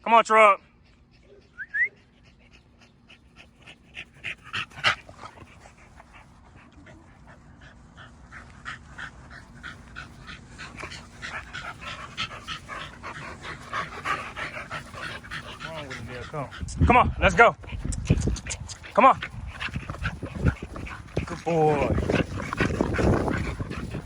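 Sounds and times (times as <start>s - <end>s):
dog panting hard: 2.0s - 24.0s.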